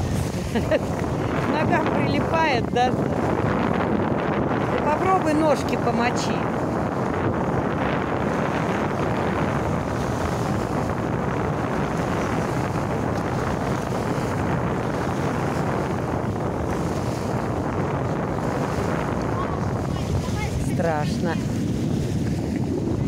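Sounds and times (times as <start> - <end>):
small waves washing on shore: 0.0 - 23.0
wind on microphone: 0.0 - 23.0.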